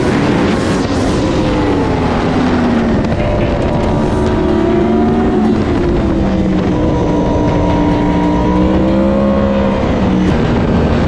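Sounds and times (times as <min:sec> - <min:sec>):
motorcycle engine accelerating: 0:00.0 - 0:11.0
wind rush on microphone: 0:00.0 - 0:11.0.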